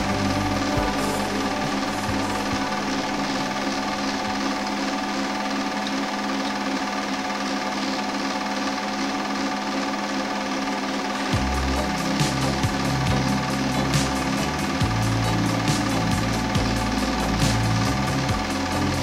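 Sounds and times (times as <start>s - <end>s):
constant hum: 0.0s - 19.0s
film projector clatter: 1.8s - 19.0s.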